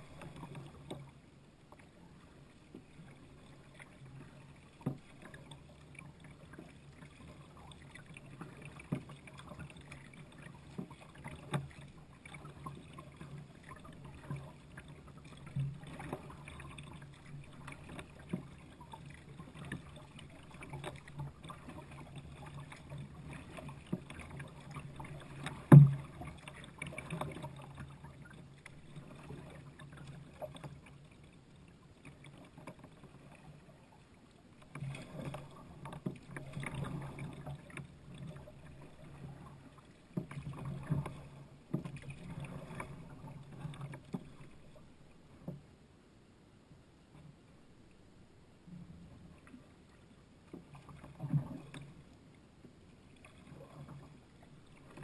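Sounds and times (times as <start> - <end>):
paddle strokes splashing: 0.0 - 45.7, 48.9 - 55.0.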